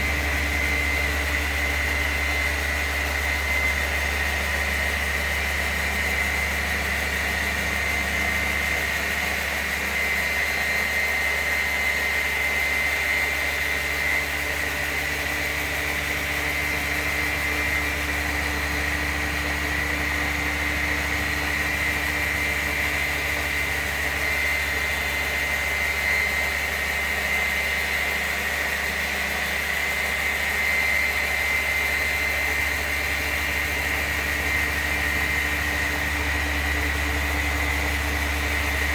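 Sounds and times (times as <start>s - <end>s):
polisher high whine: 0.0s - 38.9s
polisher motor humming: 0.0s - 38.9s.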